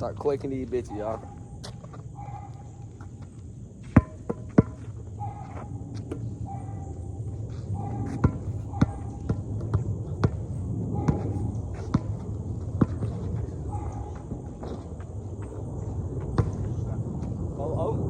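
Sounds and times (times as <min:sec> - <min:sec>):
basketball bouncing on court: 0:01.2 - 0:16.8.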